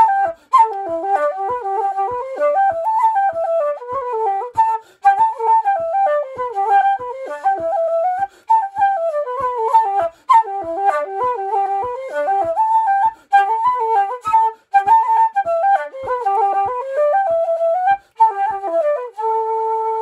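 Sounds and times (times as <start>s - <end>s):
wooden flute playing a reel: 0.0s - 20.0s.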